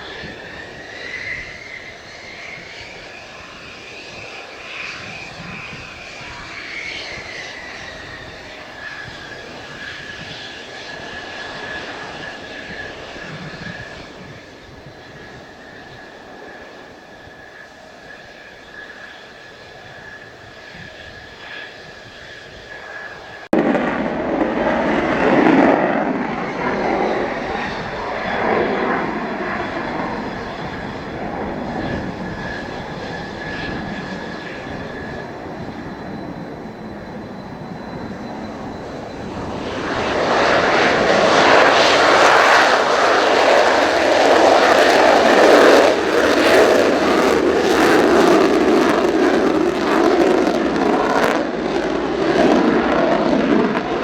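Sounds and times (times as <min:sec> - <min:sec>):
jet engine roar with high whine: 0:00.0 - 0:54.0.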